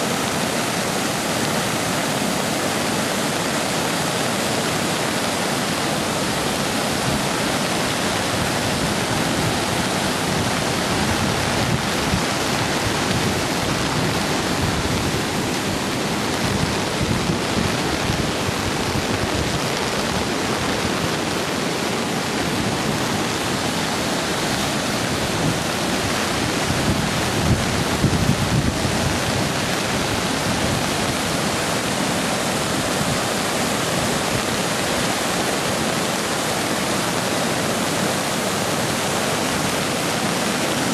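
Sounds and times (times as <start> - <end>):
floodwater rushing: 0.0 - 40.9.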